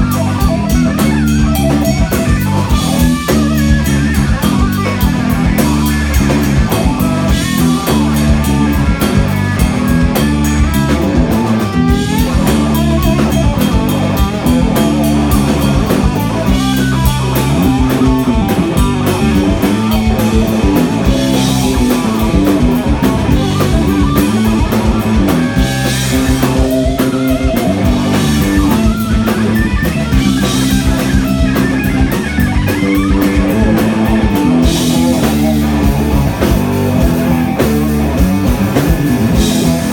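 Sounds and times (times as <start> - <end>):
drum kit: 0.0 - 39.9
electric bass guitar: 0.0 - 39.9
electric guitar: 0.0 - 39.9.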